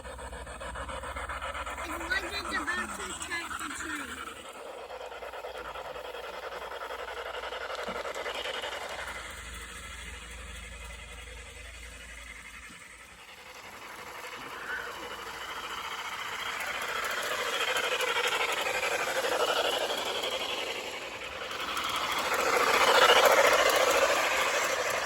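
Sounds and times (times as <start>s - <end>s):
model train wheels rattling on rails: 0.0s - 25.0s.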